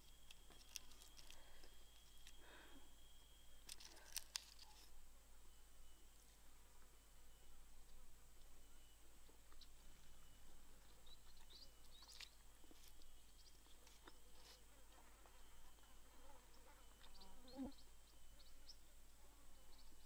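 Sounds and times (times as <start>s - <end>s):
small chirps and ticks: 0.0s - 5.0s, 5.9s - 20.0s.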